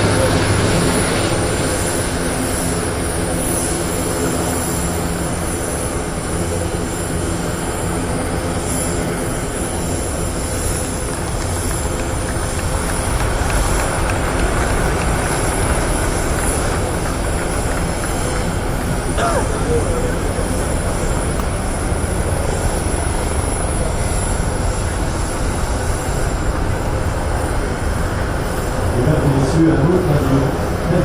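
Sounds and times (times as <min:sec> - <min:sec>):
aircraft engines rumbling: 0:00.0 - 0:31.0
high whine: 0:00.0 - 0:31.0.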